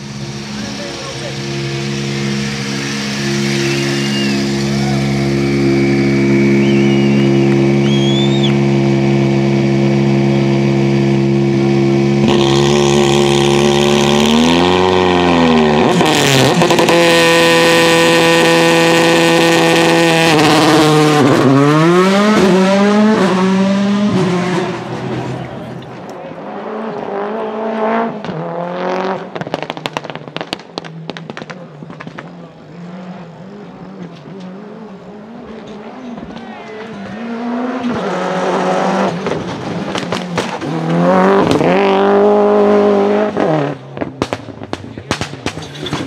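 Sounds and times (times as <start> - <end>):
car engine idling and revving: 0.0 - 46.0.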